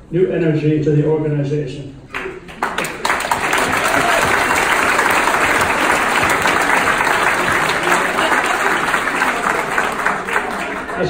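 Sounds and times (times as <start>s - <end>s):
audience applauding: 2.1s - 11.0s.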